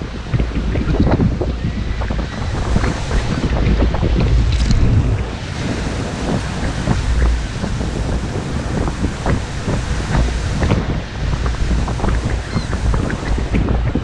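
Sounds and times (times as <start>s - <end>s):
waves splashing against shore: 0.0s - 14.0s
wind buffeting microphone: 0.0s - 14.0s.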